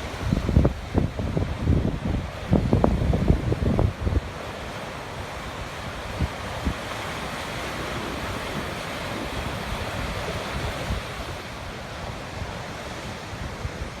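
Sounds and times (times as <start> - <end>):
sea waves breaking on shore: 0.0 - 14.0
wind buffeting microphone: 0.0 - 14.0.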